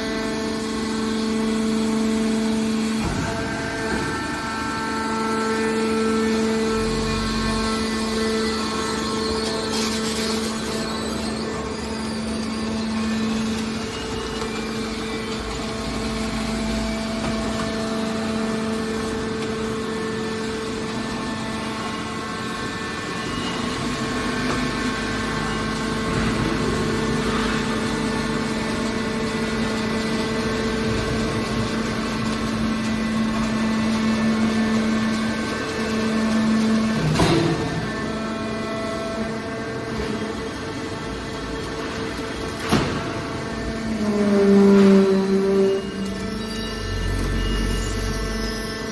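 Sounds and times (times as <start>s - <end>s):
hydraulic baler machine drone: 0.0s - 48.9s.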